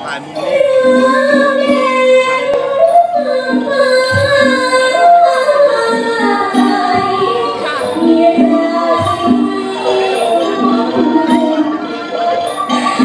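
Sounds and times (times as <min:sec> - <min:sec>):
musical accompaniment: 0:00.0 - 0:13.0.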